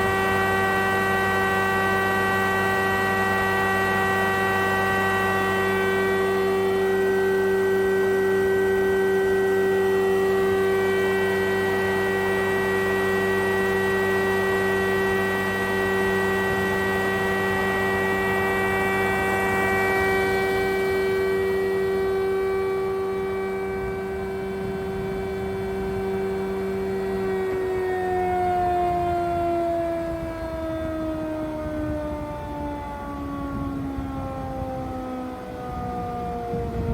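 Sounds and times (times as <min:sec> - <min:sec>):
thickness planer running: 0:00.0 - 0:36.9.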